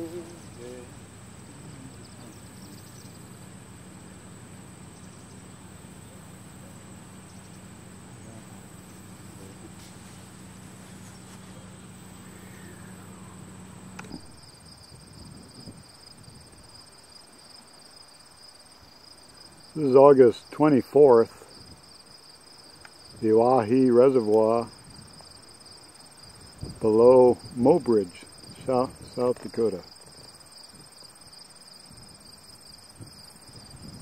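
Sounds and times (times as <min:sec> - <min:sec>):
insects trilling: 0:00.0 - 0:34.0
outdoor background hiss: 0:00.0 - 0:34.0
steady low hum: 0:00.0 - 0:34.0.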